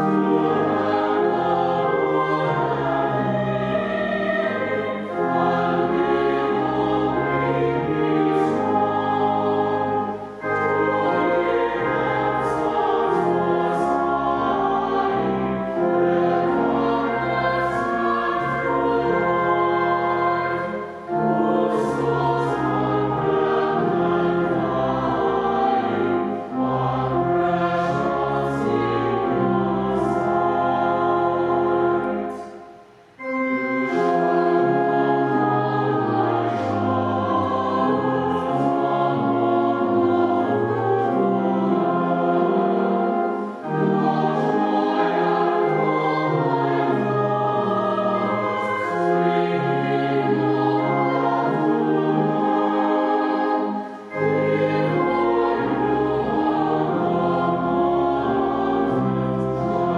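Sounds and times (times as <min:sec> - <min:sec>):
choir singing a hymn: 0:00.0 - 0:59.9
organ: 0:00.0 - 0:59.9.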